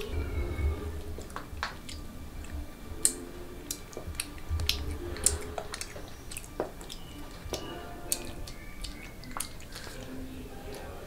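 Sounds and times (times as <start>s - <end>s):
children chewing crunchy snacks: 1.2s - 11.0s.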